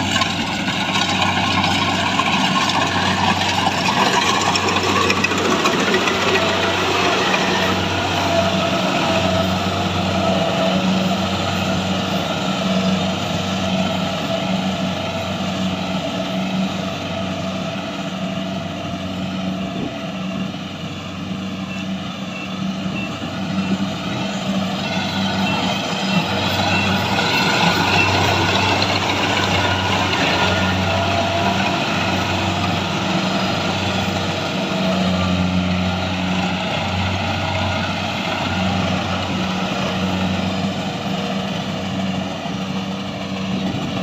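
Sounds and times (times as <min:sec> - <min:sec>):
harvesting machine running: 0:00.0 - 0:44.0.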